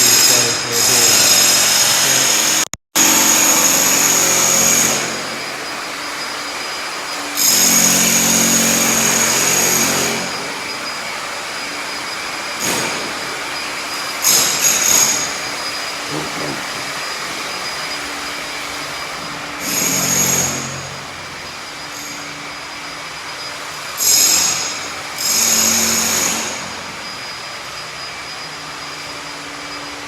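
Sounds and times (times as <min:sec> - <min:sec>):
power tool running: 0:00.0 - 0:30.0
steady mechanical hum: 0:03.0 - 0:30.0.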